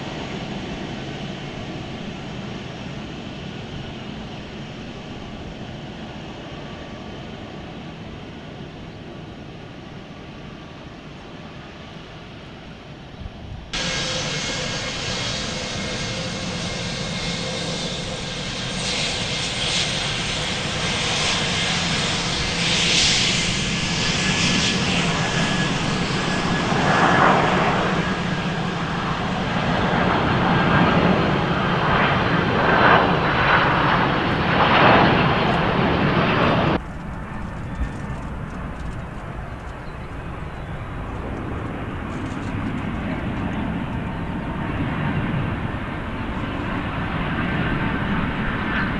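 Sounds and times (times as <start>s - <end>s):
airplane engines running: 0.0s - 48.9s.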